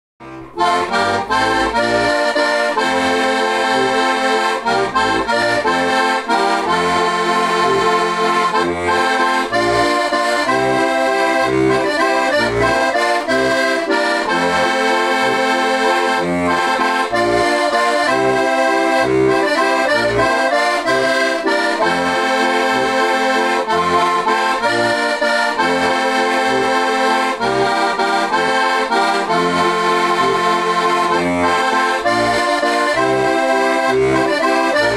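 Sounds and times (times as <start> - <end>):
button accordion folk tune: 0.2 - 34.9.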